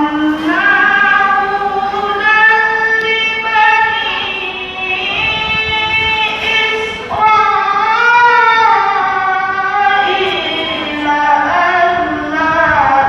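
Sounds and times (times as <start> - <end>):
girl reciting melodically: 0.0 - 13.0.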